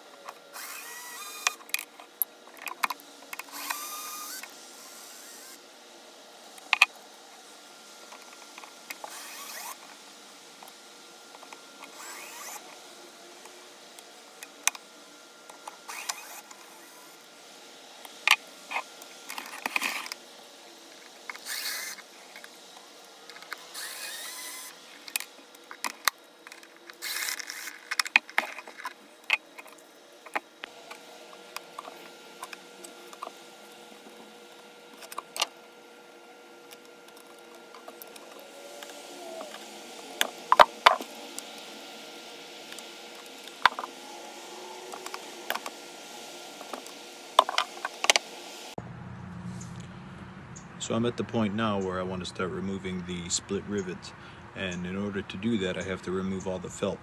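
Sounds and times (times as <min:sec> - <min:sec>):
cordless screwdriver running: 0:00.0 - 0:05.6, 0:06.5 - 0:14.8, 0:15.4 - 0:17.3, 0:18.0 - 0:48.6.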